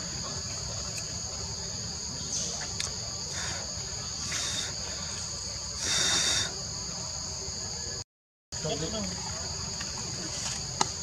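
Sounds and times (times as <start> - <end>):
insects droning: 0.0 - 8.0, 8.6 - 11.0.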